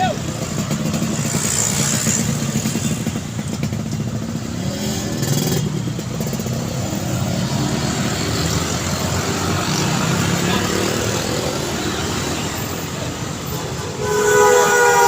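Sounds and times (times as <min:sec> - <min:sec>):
vehicle accelerating: 0:00.0 - 0:13.8
road traffic passing: 0:00.0 - 0:15.0.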